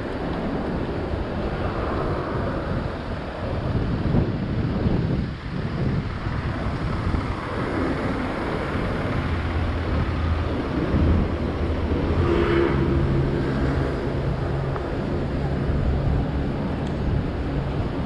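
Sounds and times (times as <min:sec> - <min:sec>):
cars passing: 0:00.0 - 0:18.0
low engine hum: 0:00.0 - 0:18.0
vehicle passing loudly: 0:00.7 - 0:18.0.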